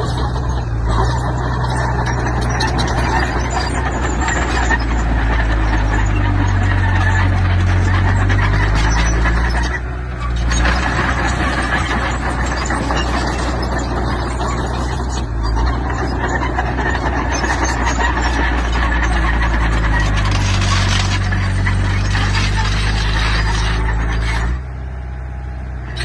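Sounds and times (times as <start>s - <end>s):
metallic clatter and rattle: 0.0s - 24.7s
diesel engine low drone: 0.0s - 26.0s.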